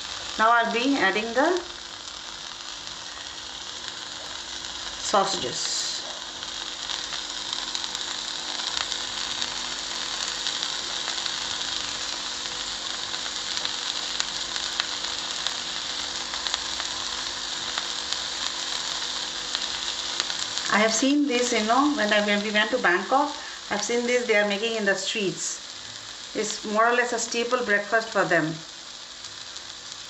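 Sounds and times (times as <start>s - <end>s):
batter and oil sizzling: 0.0s - 30.0s.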